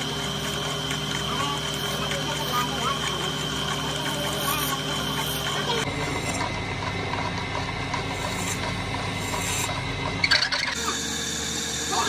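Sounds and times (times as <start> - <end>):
lathe motor humming: 0.0 - 12.0.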